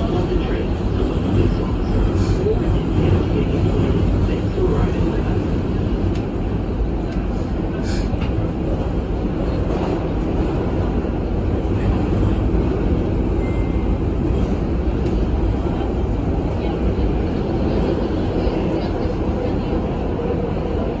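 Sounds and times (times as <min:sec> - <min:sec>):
subway train rumbling in tunnel: 0:00.0 - 0:21.0.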